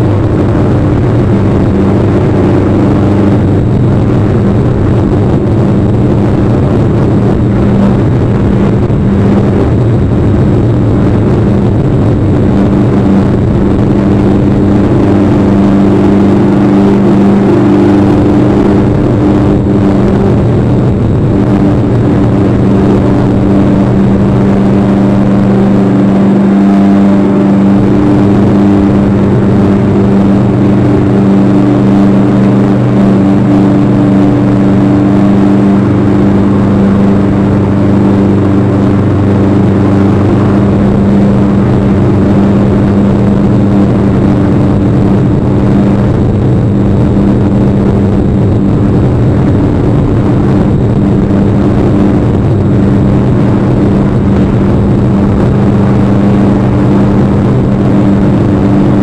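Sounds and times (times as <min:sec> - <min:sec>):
loud steady hum: 0:00.0 - 0:59.0.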